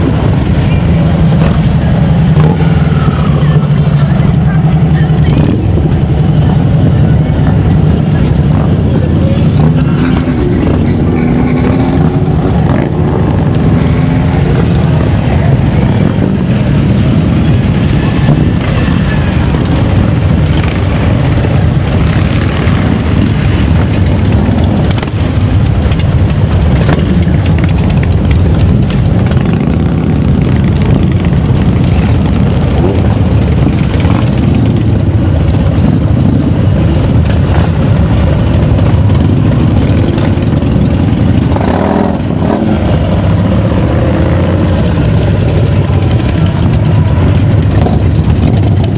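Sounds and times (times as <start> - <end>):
engines revving: 0.0 - 48.9
vehicles driving past: 0.0 - 48.9.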